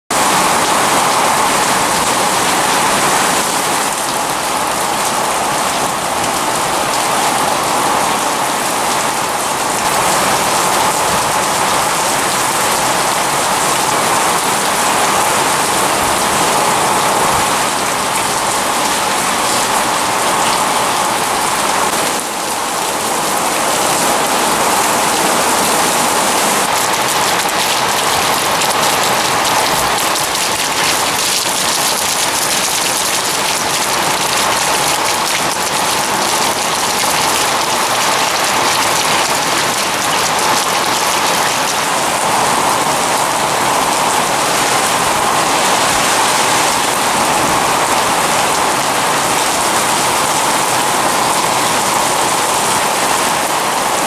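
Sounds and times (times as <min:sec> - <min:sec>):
heavy rain on concrete and puddles: 0:00.0 - 0:54.0.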